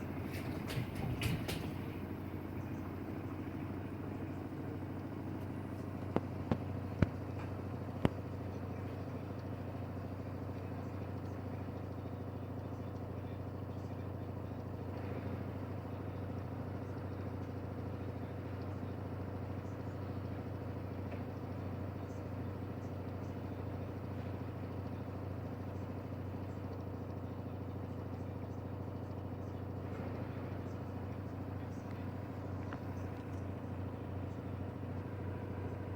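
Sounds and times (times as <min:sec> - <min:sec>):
washer-dryer humming: 0:00.0 - 0:35.9.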